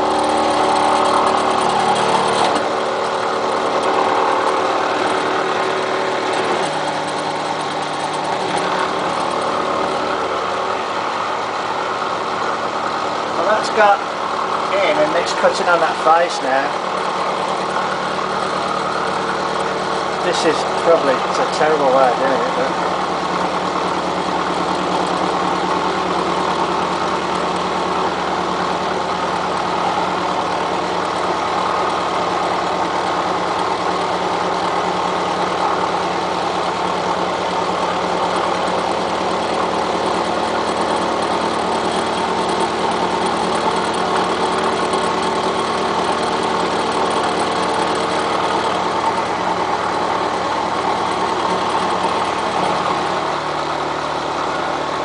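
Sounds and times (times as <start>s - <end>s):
milling machine cutting steel: 0.0s - 55.0s.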